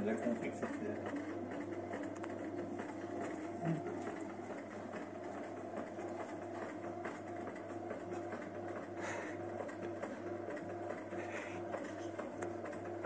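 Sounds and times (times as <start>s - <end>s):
bread maker motor hum: 0.0s - 13.0s.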